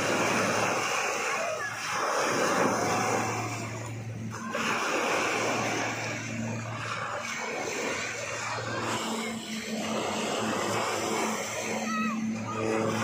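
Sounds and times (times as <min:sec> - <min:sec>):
small waves breaking on sand: 0:00.0 - 0:13.0.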